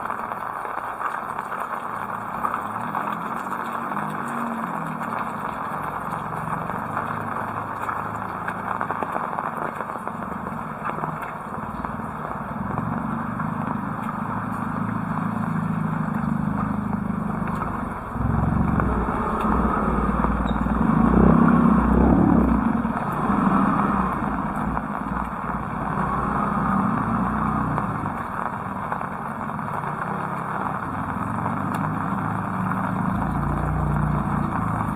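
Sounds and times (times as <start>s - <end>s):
heavy rain falling: 0.0s - 34.9s
vehicle engine passing: 2.0s - 34.9s.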